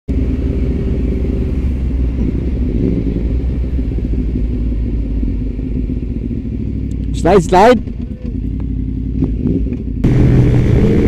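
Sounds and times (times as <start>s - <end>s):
motorcycle engine cruising: 0.1s - 11.0s.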